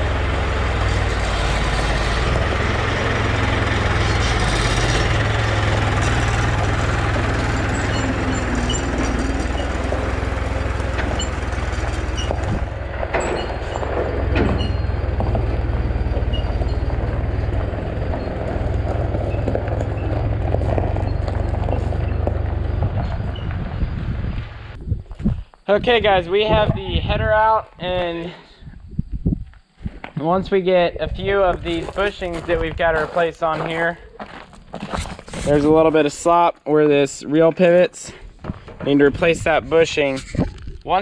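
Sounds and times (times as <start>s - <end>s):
farm machine engine rumbling: 0.0s - 24.8s, 30.2s - 41.0s.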